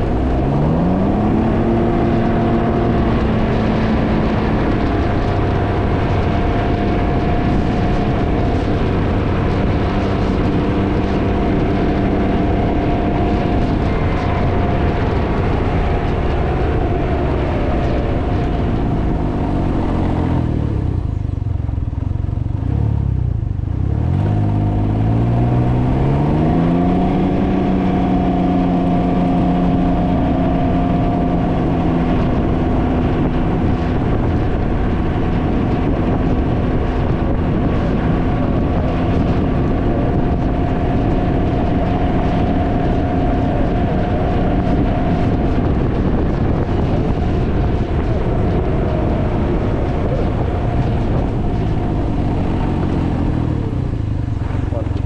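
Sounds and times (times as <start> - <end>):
three-wheeler engine running: 0.0 - 55.0
wind noise on microphone: 0.0 - 55.0.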